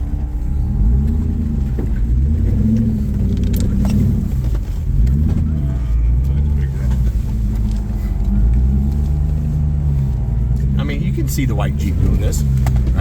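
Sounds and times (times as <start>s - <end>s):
off-road engine revving at low speed: 0.0s - 13.0s.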